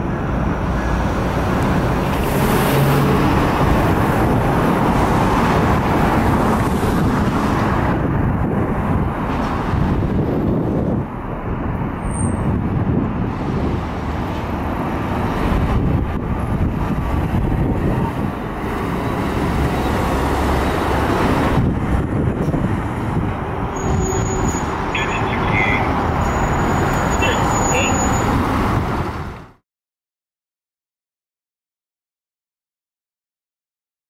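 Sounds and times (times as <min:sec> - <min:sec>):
road traffic rumble: 0:00.0 - 0:29.6.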